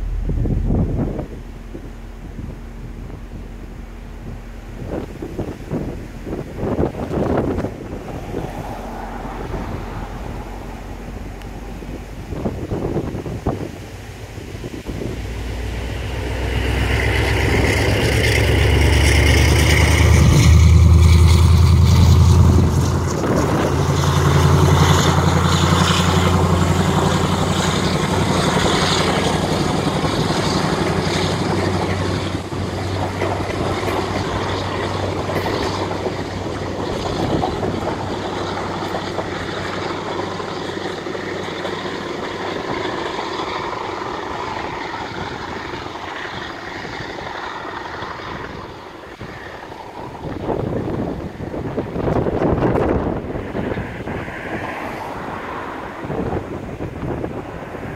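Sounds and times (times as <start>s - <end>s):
diesel locomotive engine: 0.0s - 57.9s.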